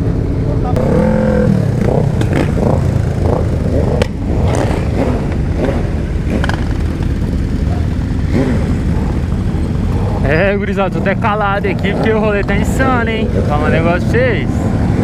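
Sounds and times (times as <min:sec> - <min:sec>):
motorcycle engines running loudly: 0:00.0 - 0:15.0.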